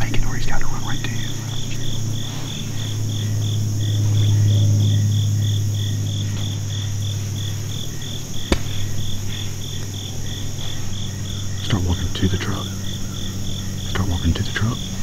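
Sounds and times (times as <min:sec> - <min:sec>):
high insect drone: 0:00.0 - 0:15.0
insect chirping: 0:00.0 - 0:15.0
low steady hum: 0:00.0 - 0:15.0.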